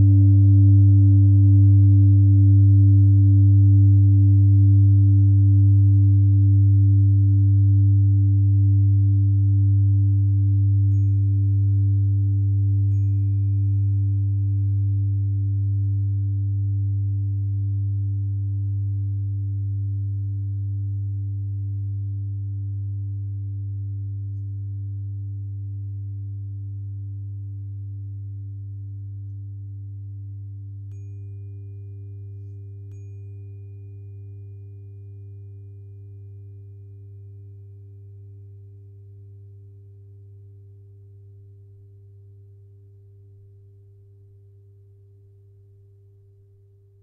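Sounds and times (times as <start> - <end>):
deep singing bowl tone: 0.0 - 47.0
tuning fork ringing: 0.0 - 47.0.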